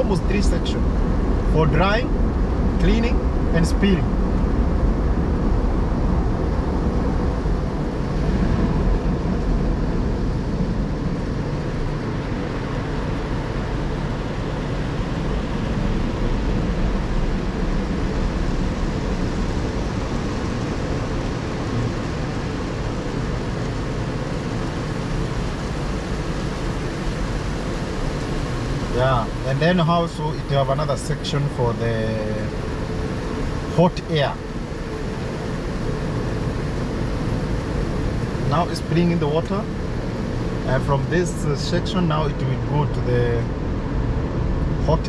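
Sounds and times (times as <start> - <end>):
car wash equipment running: 0.0 - 45.0.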